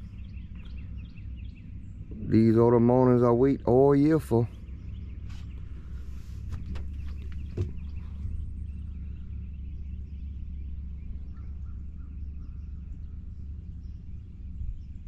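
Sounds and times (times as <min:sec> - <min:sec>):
breeze rumbling on microphone: 0:00.0 - 0:15.0
faint bird chirps: 0:00.0 - 0:15.0.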